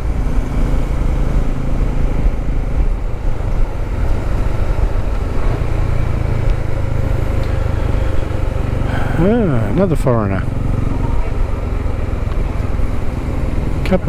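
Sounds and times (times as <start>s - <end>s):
motorcycle engine running: 0.0s - 14.0s
road noise: 0.0s - 14.0s.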